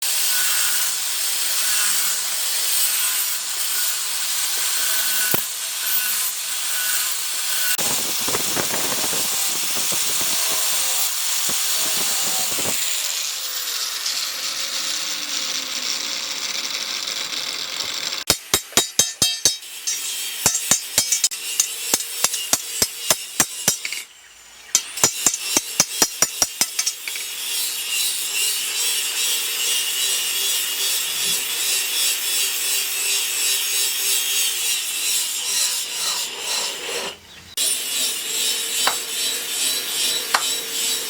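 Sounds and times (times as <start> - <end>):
power tool cutting: 0.0 - 18.6, 24.8 - 41.0.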